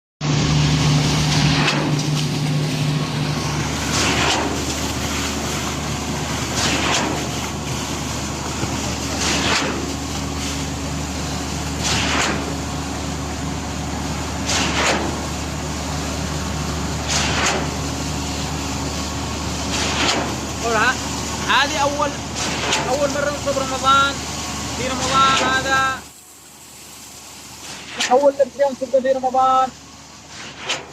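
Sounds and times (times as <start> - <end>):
hissing pump surge: 0.2 - 30.9
pump truck engine drone: 0.2 - 30.9.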